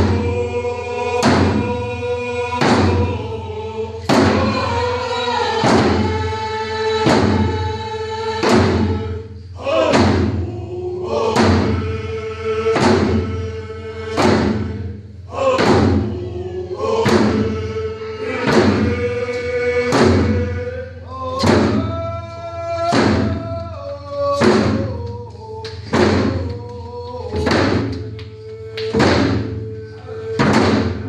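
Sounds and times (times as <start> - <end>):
drum beating slowly: 0.0 - 31.0
group of voices singing: 0.0 - 31.0.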